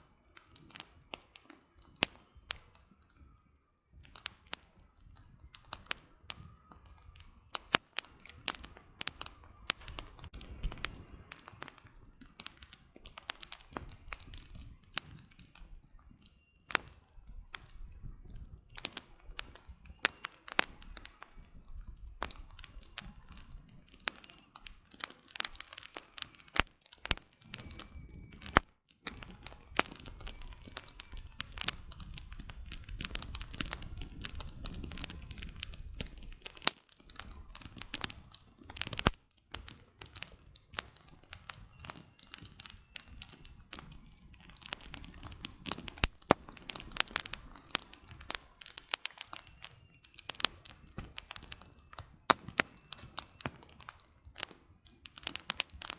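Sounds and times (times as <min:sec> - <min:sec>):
firewood crackling and popping: 0:00.0 - 0:55.9.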